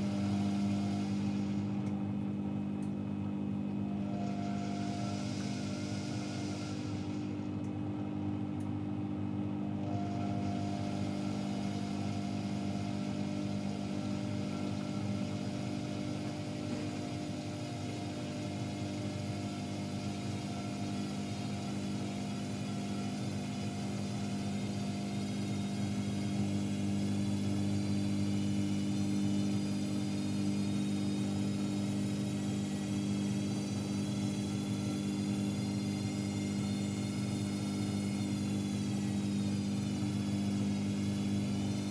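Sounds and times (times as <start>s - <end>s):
washing machine motor whirring: 0.0s - 41.9s.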